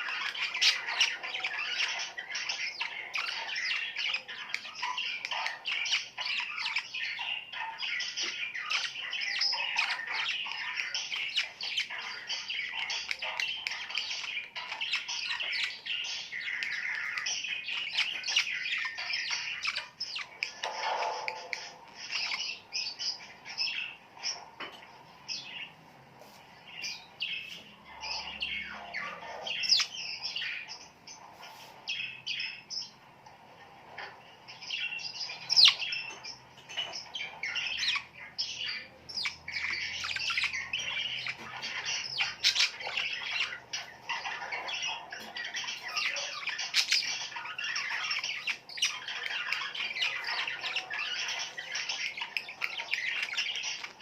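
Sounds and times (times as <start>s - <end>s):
birds chirping and squawking: 0.0s - 54.0s.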